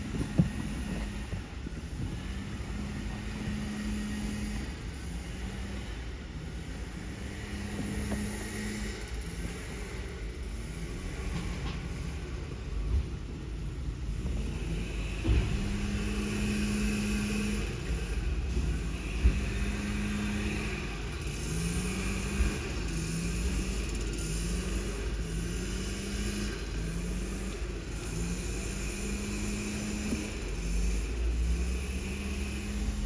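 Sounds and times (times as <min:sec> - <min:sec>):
truck diesel engine rumbling: 0:00.0 - 0:33.0.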